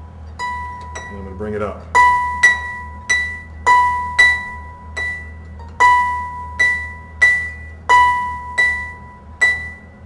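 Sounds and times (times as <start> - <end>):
harp strings plucked: 0.3 - 10.0.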